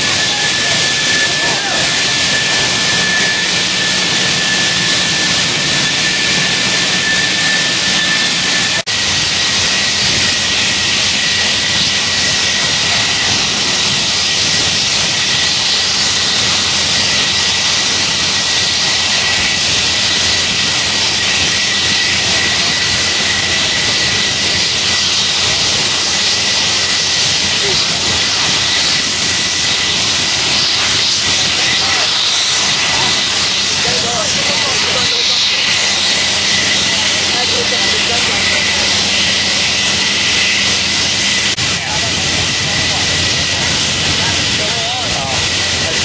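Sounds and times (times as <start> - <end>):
gas jet hissing with whistle: 0.0 - 41.6.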